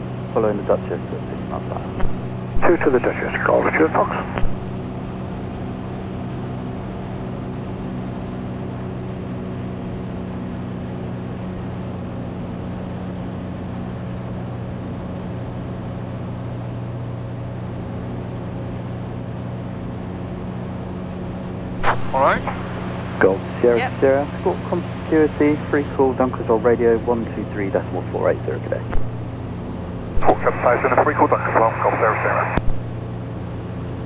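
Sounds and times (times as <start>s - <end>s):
light aircraft engine droning: 0.0s - 34.0s.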